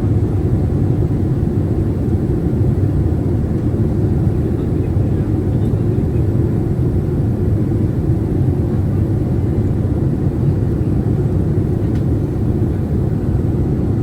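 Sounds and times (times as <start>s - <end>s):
airplane cabin rumble: 0.0s - 14.0s.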